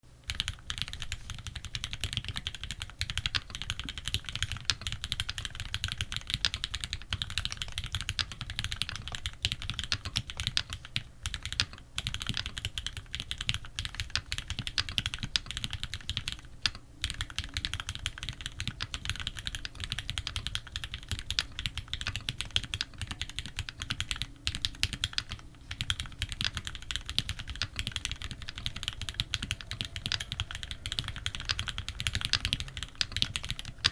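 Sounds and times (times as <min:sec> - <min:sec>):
fast mechanical keyboard typing: 0:00.3 - 0:33.9.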